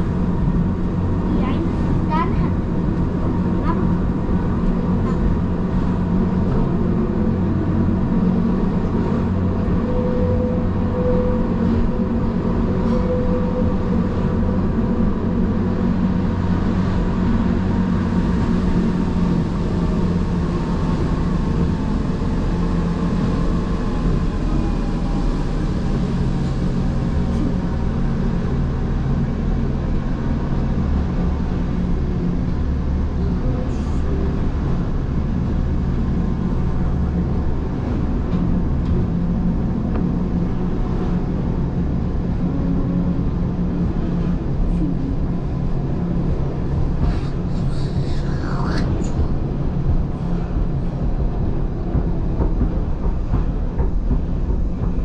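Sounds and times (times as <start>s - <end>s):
electric train humming and rumbling: 0.0s - 55.0s.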